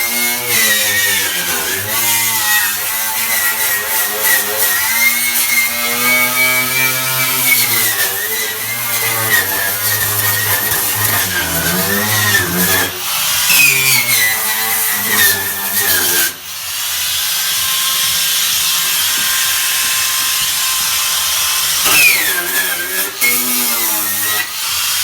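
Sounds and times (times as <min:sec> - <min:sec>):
power tool on car bodywork: 0:00.0 - 0:25.0.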